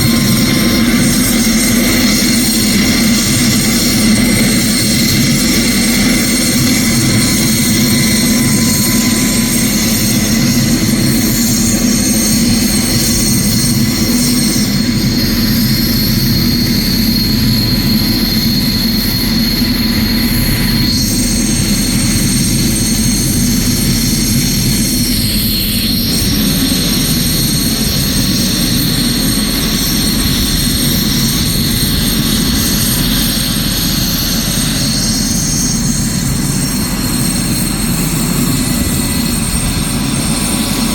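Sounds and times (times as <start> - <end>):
helicopter low drone: 0.0 - 40.9
turbine whine: 0.0 - 40.9.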